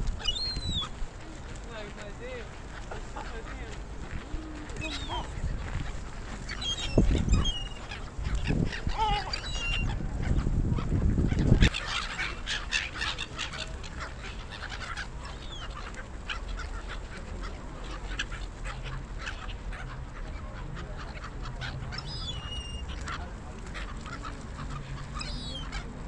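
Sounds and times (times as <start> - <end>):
gulls calling: 0.1 - 1.4, 2.4 - 26.0.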